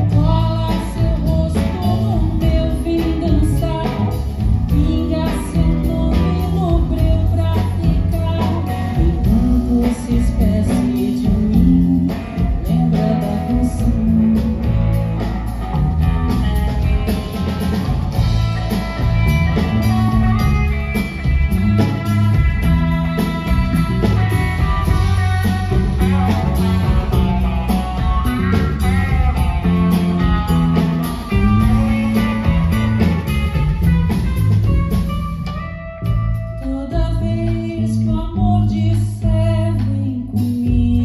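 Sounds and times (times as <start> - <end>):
drum kit beat: 0.0 - 37.2
bass guitar: 0.0 - 41.0
electric guitar: 0.0 - 41.0.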